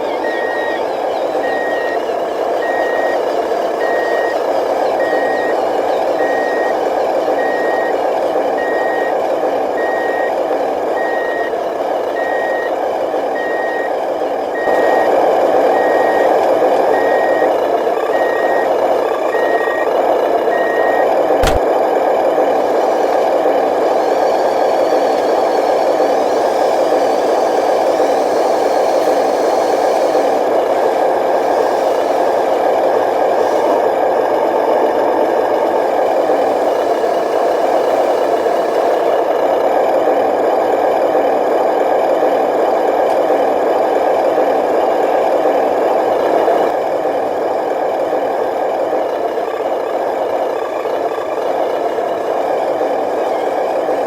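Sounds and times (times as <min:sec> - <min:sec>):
model truck motor whirring: 0:00.0 - 0:21.6, 0:22.2 - 0:54.0.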